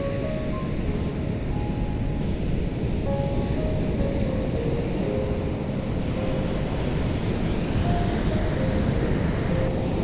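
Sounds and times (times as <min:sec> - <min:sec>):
faint slow melody: 0:00.0 - 0:10.0
ocean surf rushing: 0:00.0 - 0:10.0.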